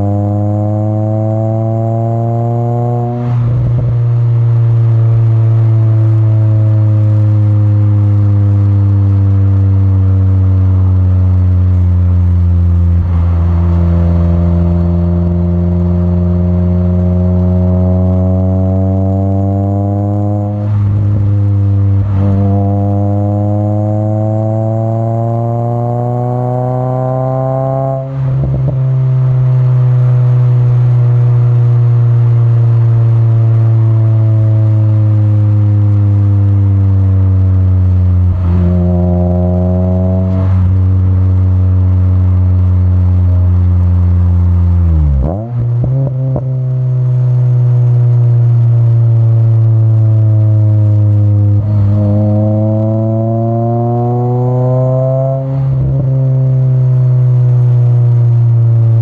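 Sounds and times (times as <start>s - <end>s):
car exhaust engine note: 0.0s - 59.0s.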